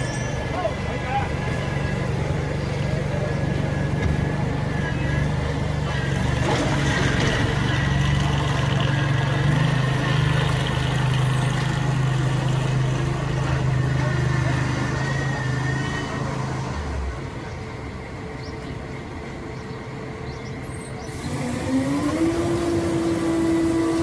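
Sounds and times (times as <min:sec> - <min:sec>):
construction machine engine humming: 0:00.0 - 0:24.0.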